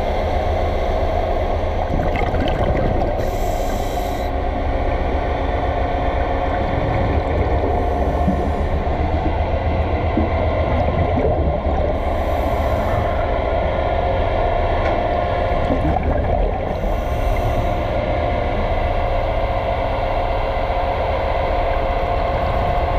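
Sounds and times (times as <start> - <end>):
underwater machinery hum: 0.0 - 22.9.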